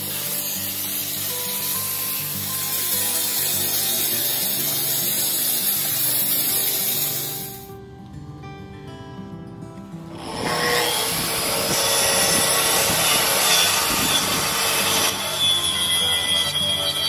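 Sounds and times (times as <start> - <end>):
circular saw cutting wood: 0.0 - 7.7, 10.1 - 17.0.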